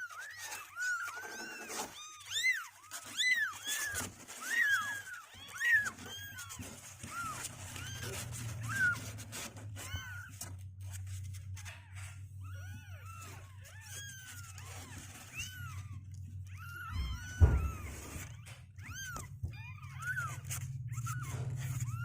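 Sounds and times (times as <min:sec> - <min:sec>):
kittens mewing: 0:00.0 - 0:22.0.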